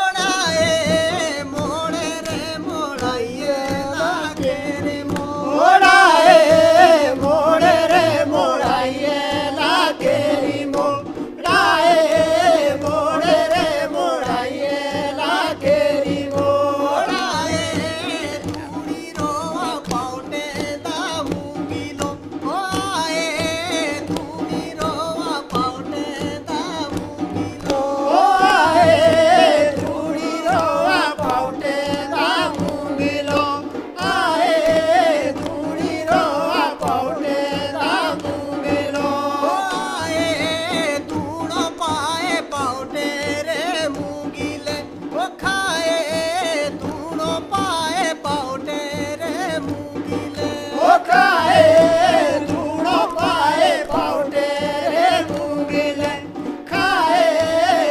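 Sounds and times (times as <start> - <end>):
drum strokes: 0.0 - 57.9
man singing folk song: 0.0 - 57.9.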